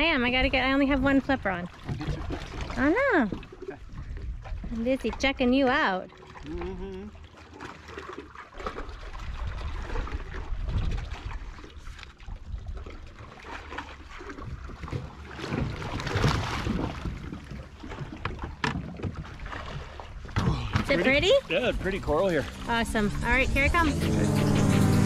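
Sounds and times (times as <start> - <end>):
water lapping against dinghy: 0.0 - 25.0
splash of water: 1.5 - 5.2, 6.1 - 23.3.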